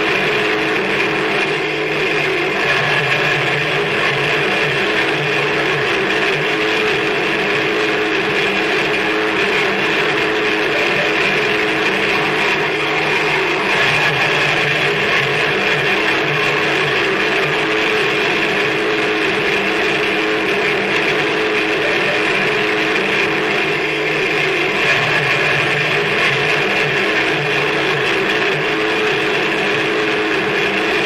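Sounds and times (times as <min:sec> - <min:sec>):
harsh noise music: 0:00.1 - 0:31.0.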